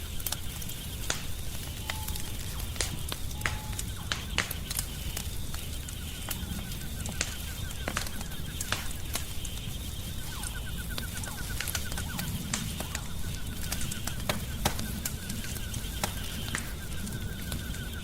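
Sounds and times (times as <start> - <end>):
rapid high chirps: 0.0 - 18.0
wood fire crackling and popping: 0.0 - 18.0.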